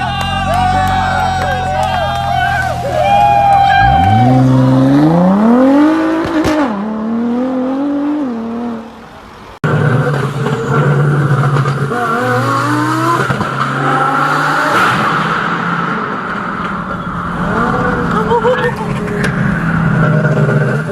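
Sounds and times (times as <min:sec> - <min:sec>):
car engine accelerating hard: 0:00.0 - 0:09.0, 0:09.6 - 0:20.9
car engine revving: 0:00.0 - 0:20.9.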